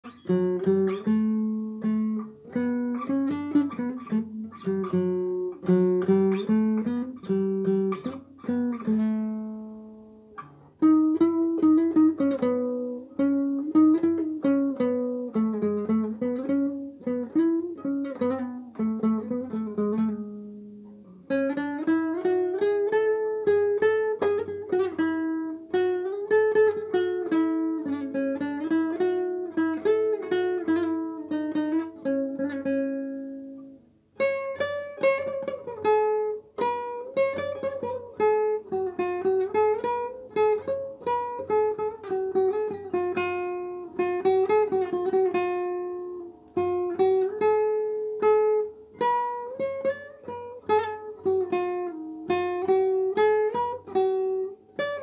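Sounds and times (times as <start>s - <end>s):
classical guitar fingerpicking: 0.0s - 55.0s.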